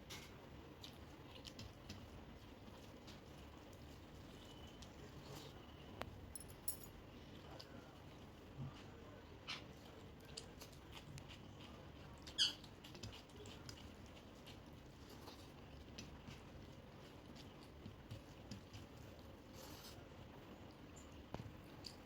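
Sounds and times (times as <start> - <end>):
food chewing and squelching: 0.0 - 6.3, 7.0 - 22.0.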